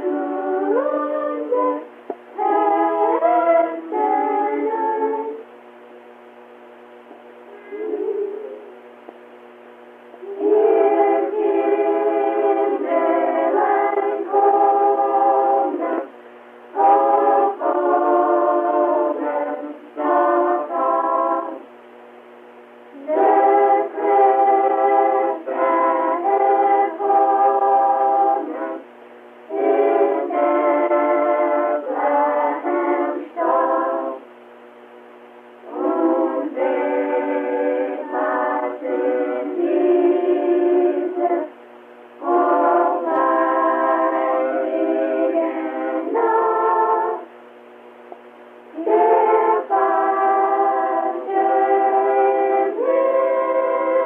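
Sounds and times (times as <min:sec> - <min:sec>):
carol singing on old cassette: 0:00.0 - 0:05.9, 0:10.1 - 0:22.0, 0:22.7 - 0:47.8, 0:48.5 - 0:54.0.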